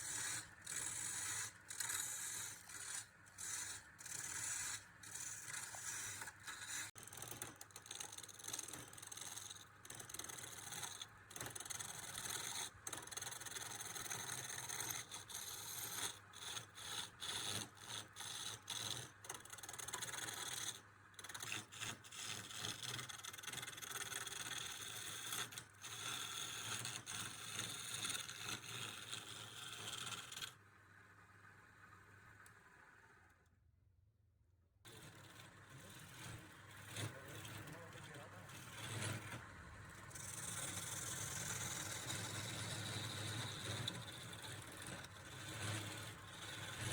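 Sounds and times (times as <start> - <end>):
tool scraping spinning wood: 0.0 - 30.5, 34.9 - 46.9.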